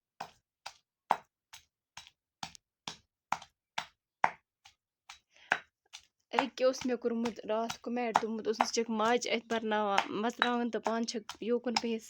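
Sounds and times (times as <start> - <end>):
meat being pounded by hand: 0.1 - 12.0.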